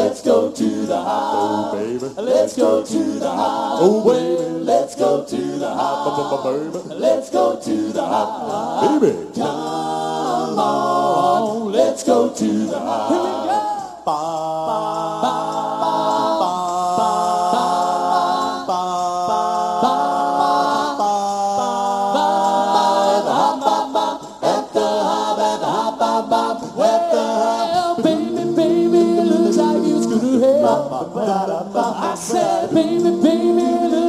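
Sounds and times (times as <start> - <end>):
male group singing in harmony: 0.0 - 34.0.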